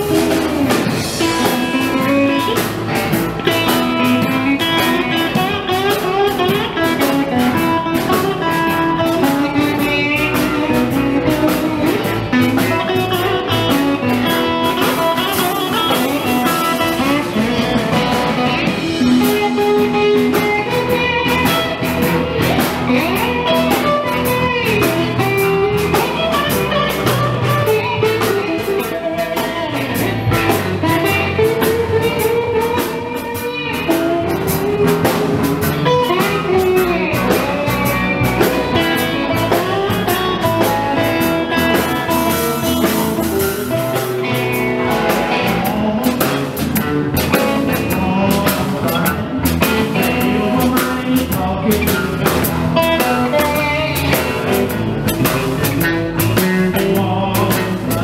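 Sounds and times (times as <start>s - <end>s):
drum kit beat: 0.0s - 58.0s
lead electric guitar: 0.0s - 58.0s
second guitar: 0.0s - 58.0s.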